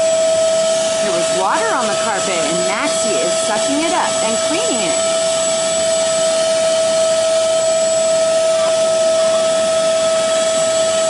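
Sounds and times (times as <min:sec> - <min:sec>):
suction motor whining: 0:00.0 - 0:11.0.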